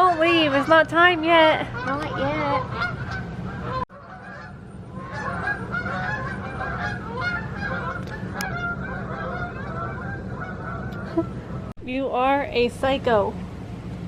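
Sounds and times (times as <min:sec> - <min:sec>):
geese honking: 0:00.0 - 0:11.7.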